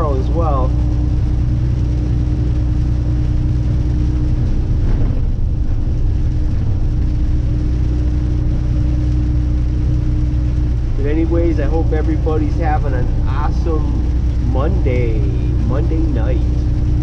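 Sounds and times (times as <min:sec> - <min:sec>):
rain hiss and spray: 0:00.0 - 0:17.0
truck engine and road drone: 0:00.0 - 0:17.0.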